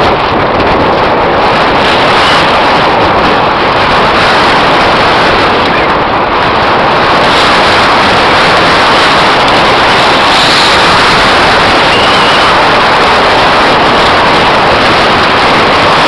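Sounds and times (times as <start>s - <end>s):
bike rumbling on trail: 0.0s - 16.0s
wind buffeting microphone: 0.0s - 16.0s.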